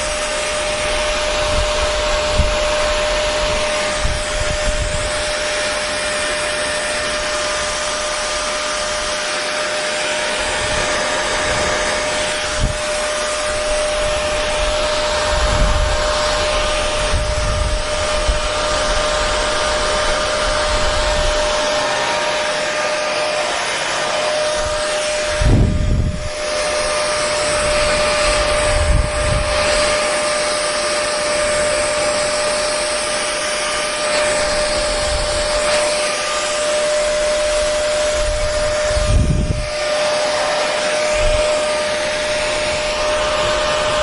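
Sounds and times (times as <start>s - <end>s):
hair dryer running: 0.0s - 44.0s.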